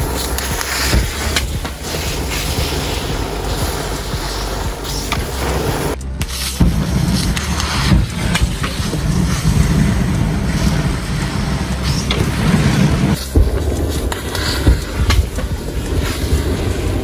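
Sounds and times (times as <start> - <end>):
rush of flame: 0.0 - 17.0
sharp crackles of burning matches: 0.0 - 17.0.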